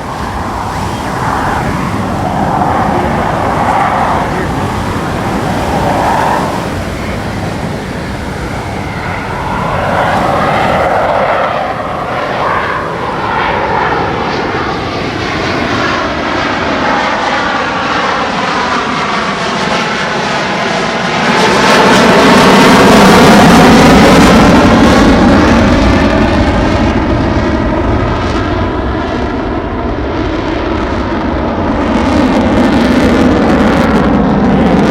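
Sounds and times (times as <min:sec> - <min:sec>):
fighter jets flying past: 0:00.0 - 0:34.9.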